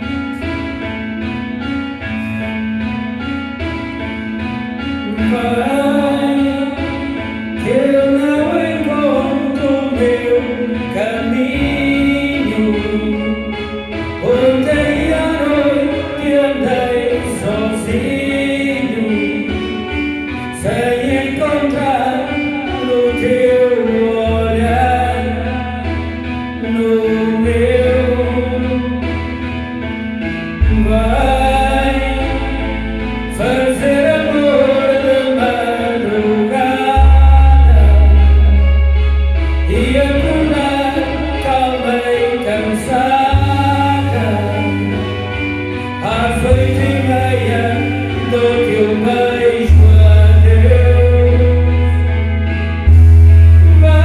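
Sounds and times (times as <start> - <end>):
instrumental backing: 0.0 - 54.0
person singing: 0.0 - 54.0.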